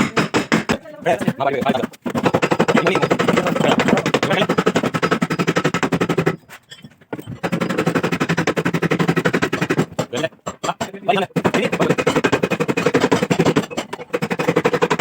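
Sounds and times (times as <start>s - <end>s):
hammering on sheet metal: 0.0s - 6.4s, 7.4s - 15.0s.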